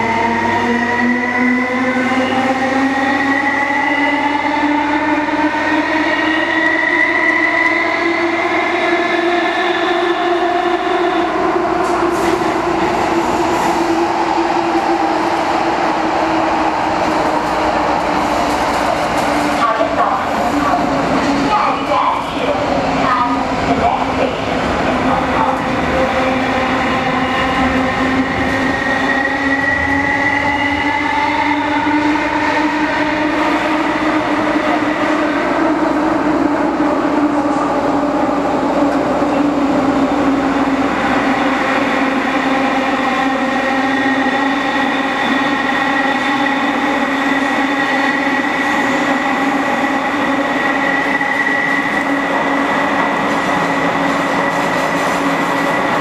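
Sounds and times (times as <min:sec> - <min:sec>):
train wheels rumbling on rails: 0:08.3 - 0:56.0.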